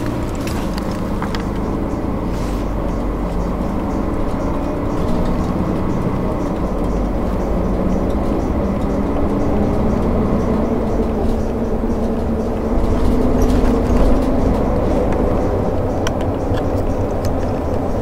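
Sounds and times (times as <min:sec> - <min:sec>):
motor vehicle engine rumble: 0:00.0 - 0:18.0.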